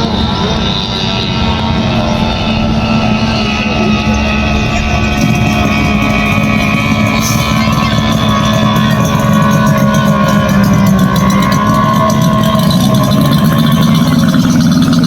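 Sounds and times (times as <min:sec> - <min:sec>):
powerboat engine running: 0:00.0 - 0:15.0.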